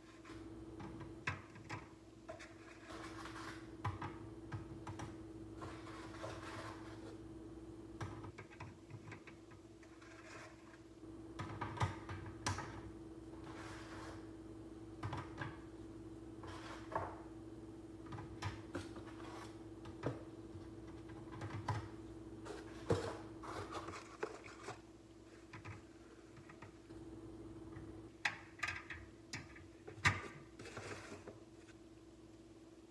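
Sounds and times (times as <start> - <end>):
steady hum: 0.0 - 32.9.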